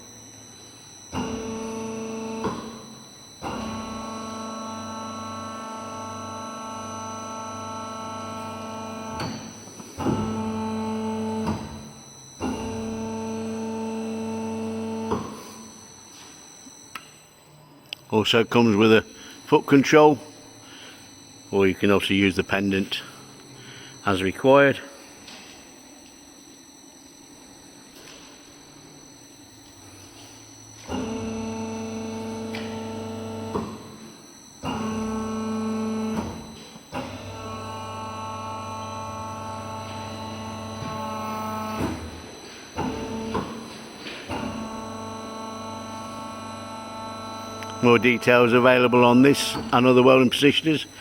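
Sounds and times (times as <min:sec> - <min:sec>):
motor drive whining: 0:00.0 - 0:18.0, 0:25.0 - 0:51.0
low mains hum: 0:00.0 - 0:51.0.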